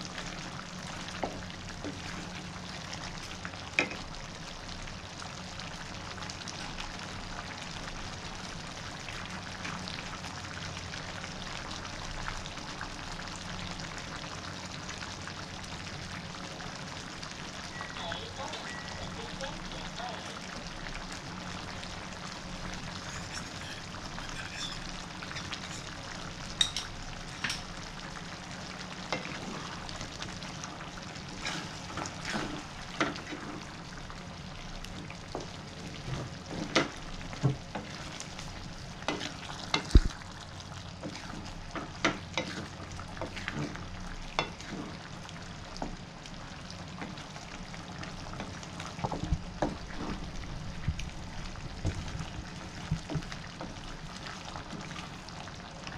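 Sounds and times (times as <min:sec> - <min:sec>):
curry sizzling: 0:00.0 - 0:55.9.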